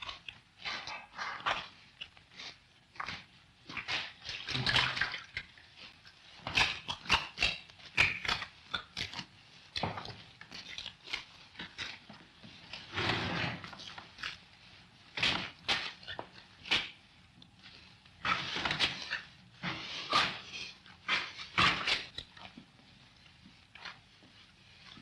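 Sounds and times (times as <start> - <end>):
hands kneading wet dough: 0.0 - 25.0.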